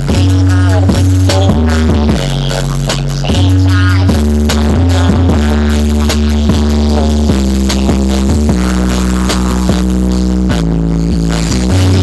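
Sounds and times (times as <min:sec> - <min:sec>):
loud electronic music: 0:00.0 - 0:12.0.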